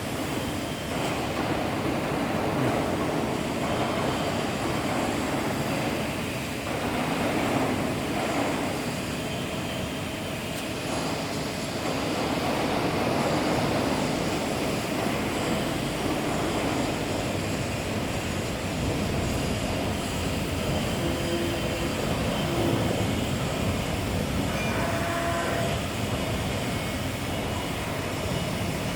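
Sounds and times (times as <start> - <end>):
machine running drone: 0.0 - 28.9.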